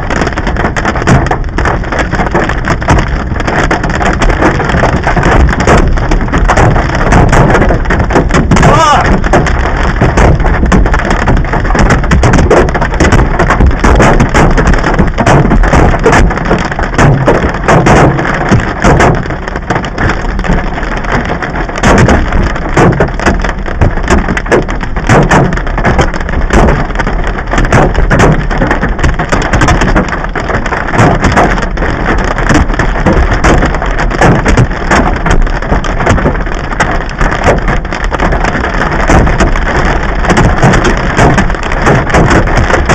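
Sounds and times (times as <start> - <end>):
hail pounding hard surfaces: 0.0 - 42.9.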